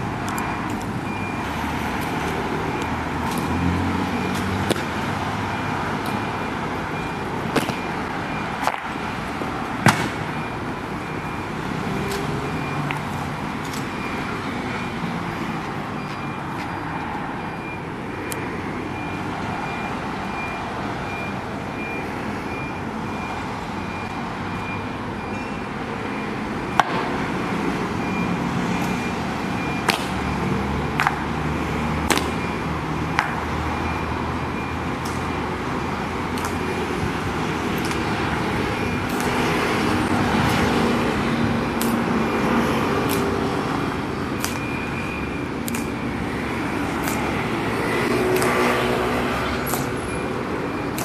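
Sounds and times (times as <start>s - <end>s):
road traffic hum: 0.0s - 51.0s.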